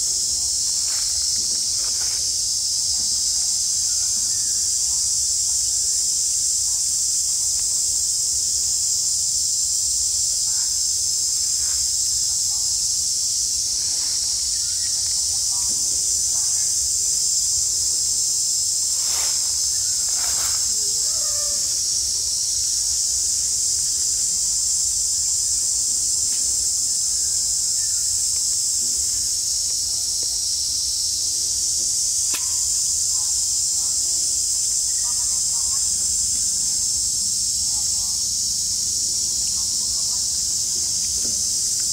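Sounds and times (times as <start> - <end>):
insects buzzing: 0.0 - 41.9.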